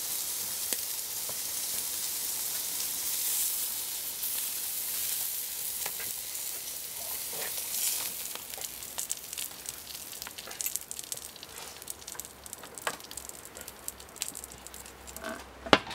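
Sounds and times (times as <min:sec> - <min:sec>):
meat sizzling on a grill: 0:00.0 - 0:15.6.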